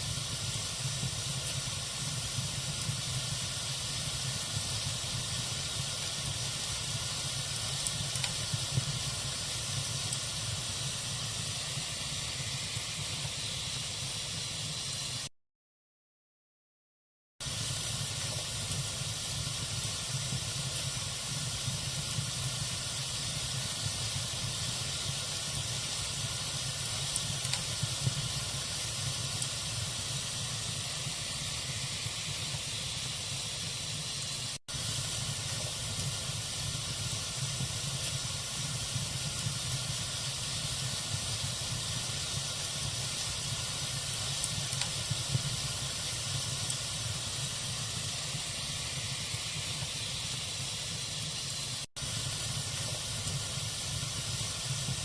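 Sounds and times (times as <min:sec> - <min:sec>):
logs burning in fireplace: 0:00.0 - 0:14.7, 0:17.4 - 0:55.0.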